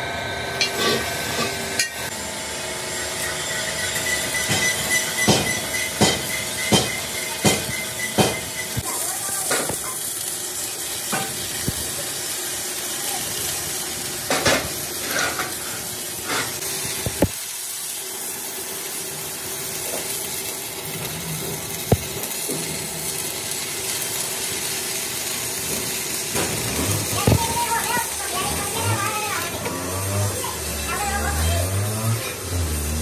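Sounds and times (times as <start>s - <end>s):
welding arc crackling: 0.4s - 33.0s.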